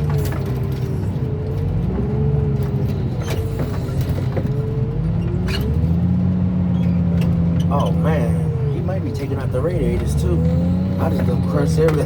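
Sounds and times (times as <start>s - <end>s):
diesel engine and hydraulic pump: 0.0s - 12.0s.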